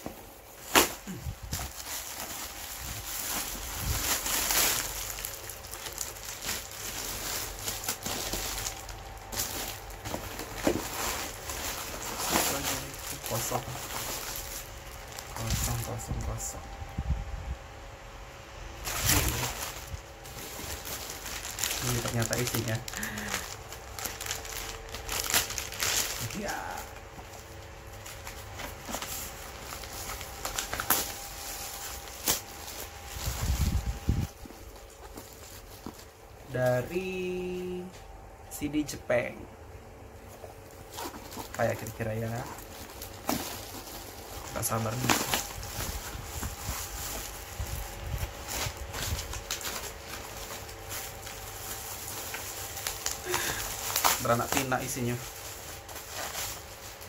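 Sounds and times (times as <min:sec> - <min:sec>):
packaging rustling and crinkling: 0:00.0 - 0:16.6, 0:18.8 - 0:38.0, 0:40.2 - 0:57.0.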